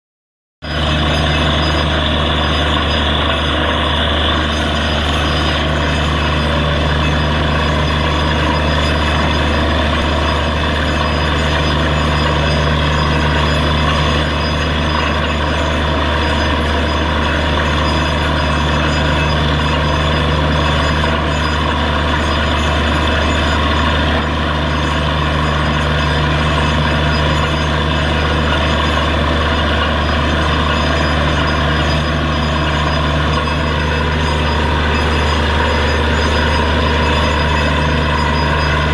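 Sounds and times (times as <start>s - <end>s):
drilling rig engine humming: 0.6s - 38.9s.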